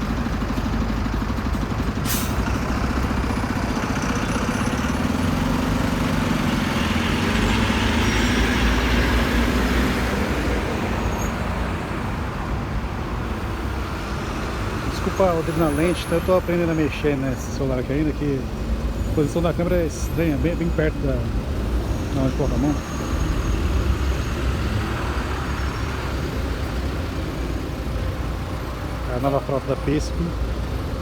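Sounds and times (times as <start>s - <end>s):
heavy road traffic: 0.0s - 31.0s
heavy vehicle passing close: 0.0s - 31.0s.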